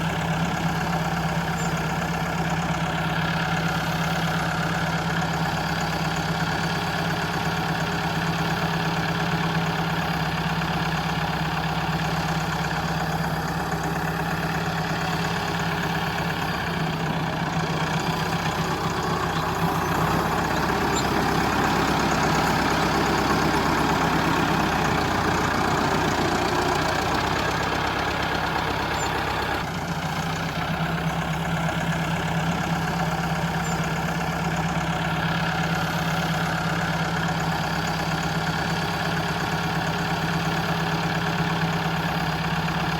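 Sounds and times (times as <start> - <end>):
machine engine humming: 0.0 - 42.9.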